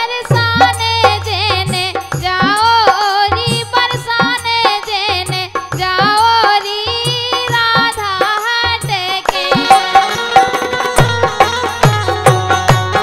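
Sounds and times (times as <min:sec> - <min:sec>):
dholak drum beat: 0:00.0 - 0:13.0
harmonium: 0:00.0 - 0:13.0
woman singing: 0:00.0 - 0:13.0.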